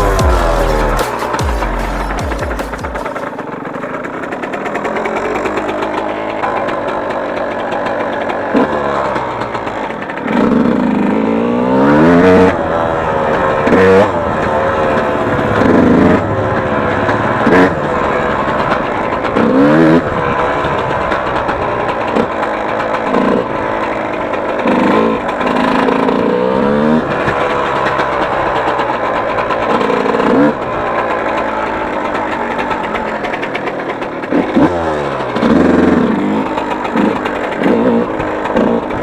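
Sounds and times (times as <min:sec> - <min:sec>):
motocross engine revving: 0:00.0 - 0:39.0.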